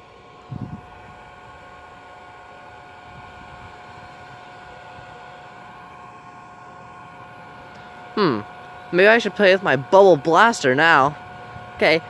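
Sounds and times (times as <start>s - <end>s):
bubble machine fan motor whine: 0.0s - 12.0s.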